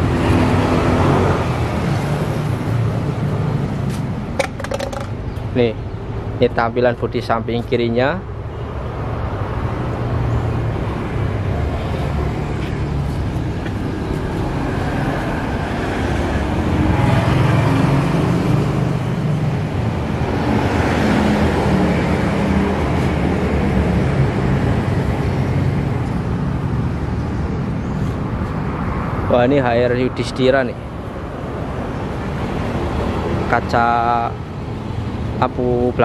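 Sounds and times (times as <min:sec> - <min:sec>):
low rumble of vehicle engines: 0:00.0 - 0:36.0.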